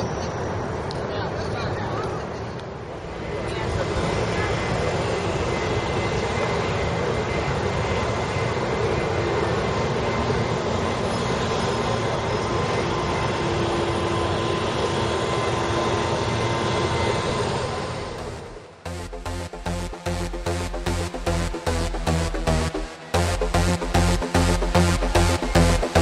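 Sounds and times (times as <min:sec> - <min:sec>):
city traffic roar: 0:00.0 - 0:26.0.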